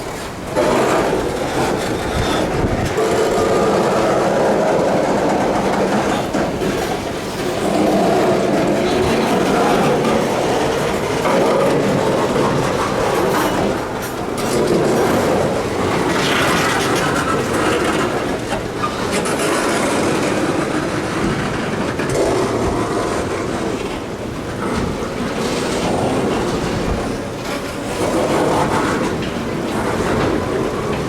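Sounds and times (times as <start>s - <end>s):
freight train rolling past: 0.0s - 31.0s
wheels clicking over rail joints: 0.0s - 31.0s.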